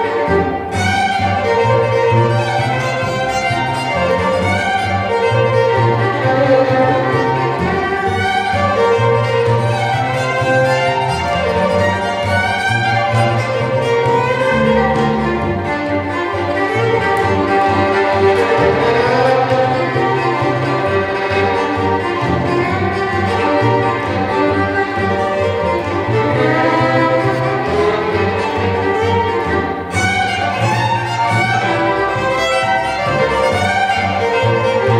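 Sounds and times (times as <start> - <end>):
double bass accompaniment: 0.0 - 34.9
violin playing fast fiddle tune: 0.0 - 34.9.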